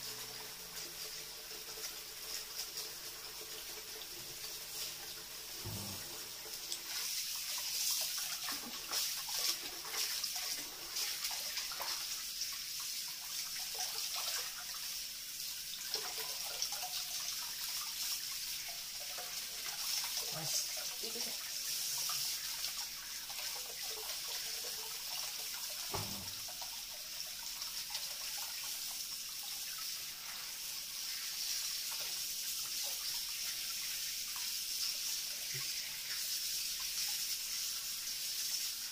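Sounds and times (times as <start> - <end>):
tap water running into basin: 0.0 - 38.9.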